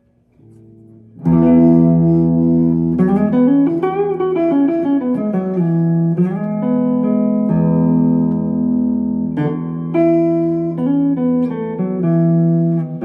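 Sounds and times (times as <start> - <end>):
clean electric guitar: 0.0 - 13.0.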